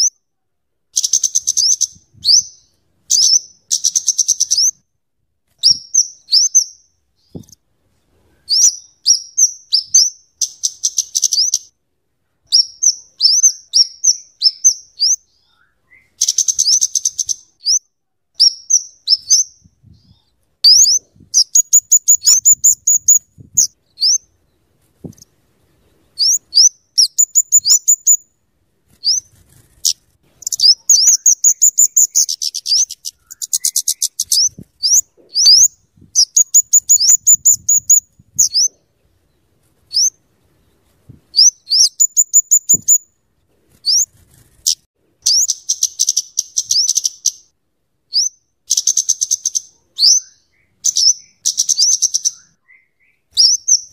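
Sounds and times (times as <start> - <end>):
bird high sharp chipping calls: 1.0 - 4.8, 5.6 - 7.6, 8.5 - 11.8, 12.5 - 24.4, 25.0 - 28.3, 28.9 - 38.9, 39.9 - 40.2, 41.3 - 43.1, 43.8 - 53.9.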